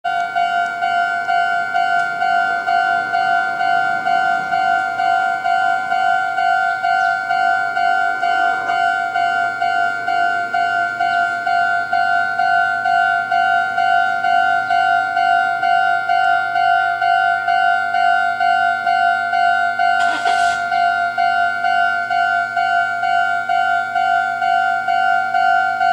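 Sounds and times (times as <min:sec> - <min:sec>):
level crossing warning bell dinging: 0:00.0 - 0:25.9.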